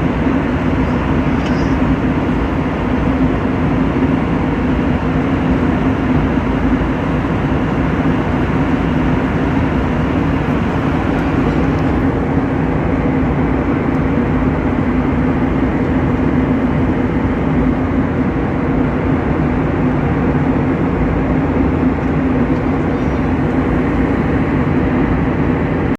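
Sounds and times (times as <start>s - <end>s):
ship engine droning: 0.0s - 25.9s.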